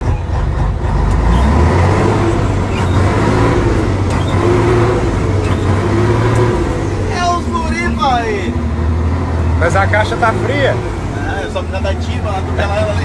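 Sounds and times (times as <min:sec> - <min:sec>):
diesel truck engine under load: 0:00.0 - 0:13.0
steady whine: 0:01.4 - 0:13.0.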